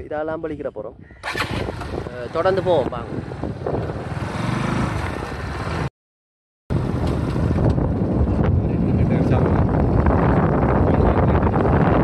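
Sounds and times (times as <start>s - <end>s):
riding wind rush: 1.0s - 5.9s, 6.7s - 12.0s.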